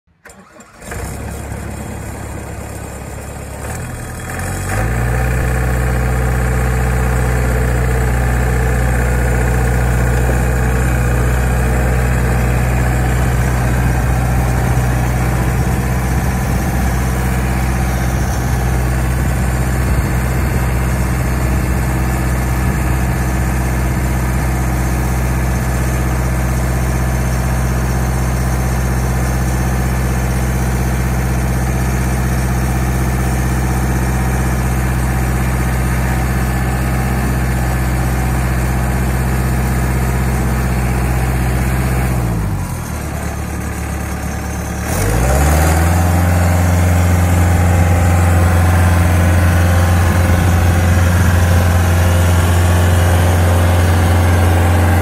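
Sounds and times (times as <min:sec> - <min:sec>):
stump grinder engine running: 0:00.2 - 0:55.0.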